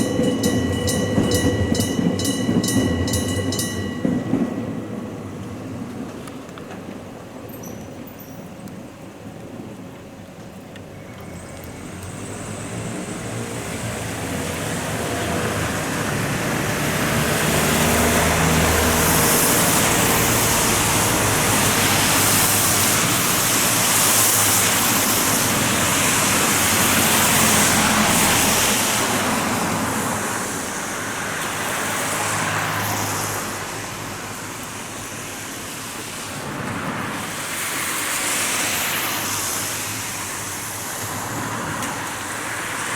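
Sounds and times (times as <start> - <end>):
electric train passing: 0.0 - 42.9.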